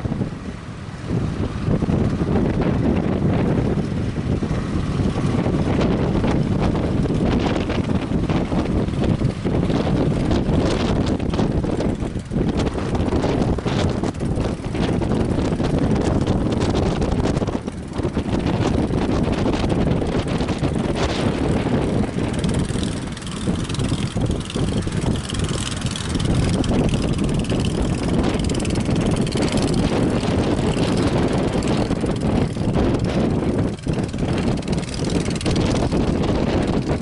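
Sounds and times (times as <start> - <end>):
boat engine drone: 0.0 - 37.0
wind buffeting microphone: 0.0 - 37.0.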